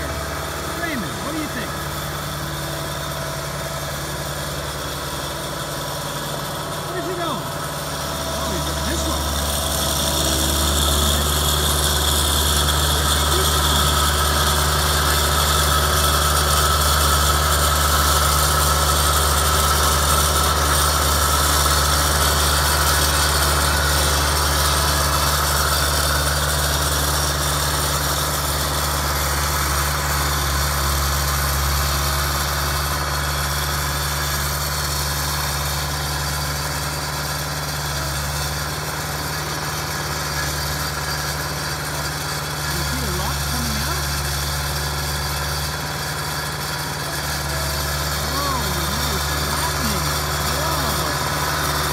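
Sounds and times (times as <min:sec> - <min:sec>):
loader engine running: 0:00.0 - 0:51.9.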